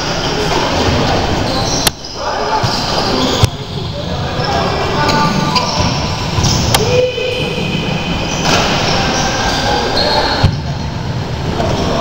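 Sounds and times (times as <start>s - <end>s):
noise of indoor hall: 0.0s - 12.0s
sneakers squeaking on court floor: 0.0s - 12.0s.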